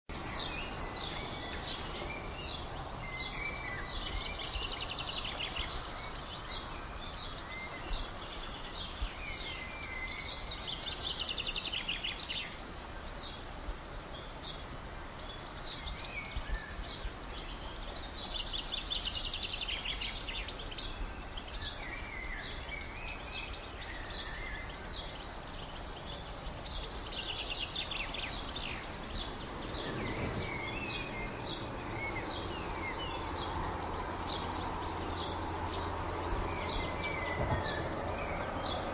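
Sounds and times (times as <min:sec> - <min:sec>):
background hiss: 0:00.1 - 0:38.9
songbirds chirping: 0:00.1 - 0:38.9
trilled birdsong: 0:00.1 - 0:38.9.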